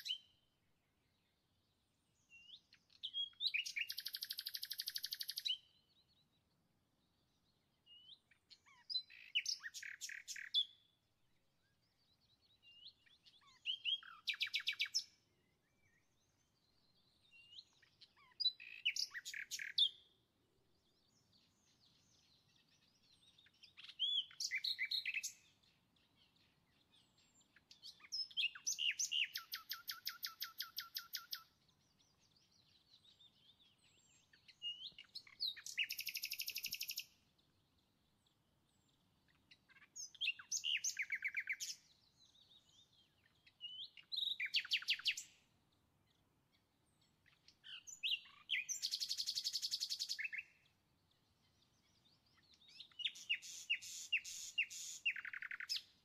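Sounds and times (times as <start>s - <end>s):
songbird singing with trill: 0.0s - 56.0s.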